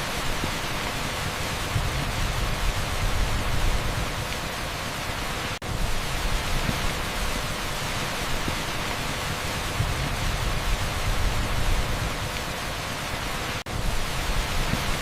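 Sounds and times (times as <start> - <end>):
torrential rain hissing: 0.0 - 15.0.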